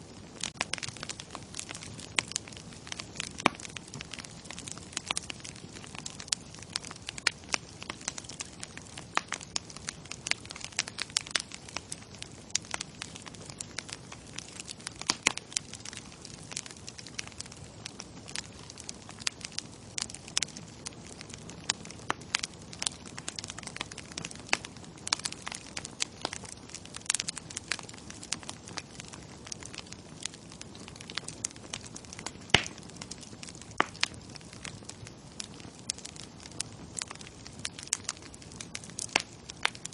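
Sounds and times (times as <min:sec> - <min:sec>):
bonfire crackling: 0:00.0 - 0:39.9
low fire hiss: 0:00.0 - 0:39.9.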